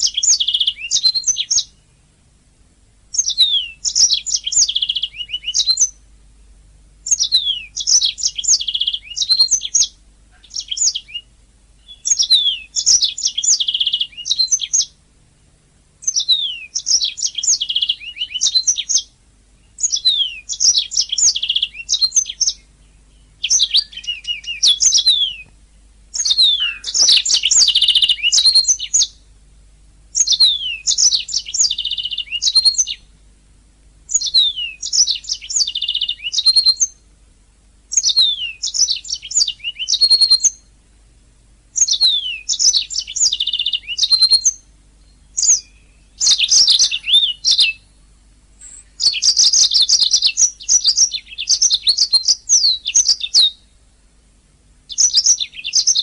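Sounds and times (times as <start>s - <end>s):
canary singing: 0.0s - 2.2s, 3.1s - 6.1s, 7.0s - 15.0s, 16.0s - 29.4s, 30.1s - 33.2s, 34.1s - 37.1s, 37.9s - 40.8s, 41.7s - 53.8s, 54.9s - 56.0s.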